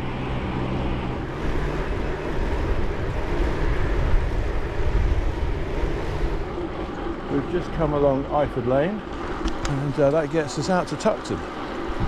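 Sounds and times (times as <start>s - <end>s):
wind rumbling on microphone: 0.0s - 10.5s, 11.3s - 12.0s
bicycle tyre road noise: 0.0s - 12.0s.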